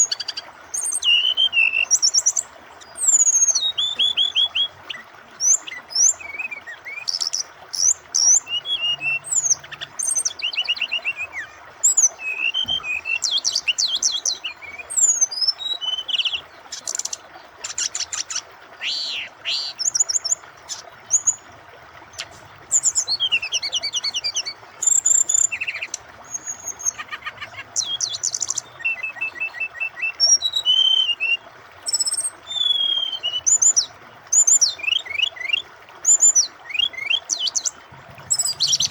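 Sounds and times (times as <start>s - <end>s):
bird singing trills and whistles: 0.0s - 21.4s, 22.1s - 38.9s
flowing water rushing: 0.0s - 38.9s.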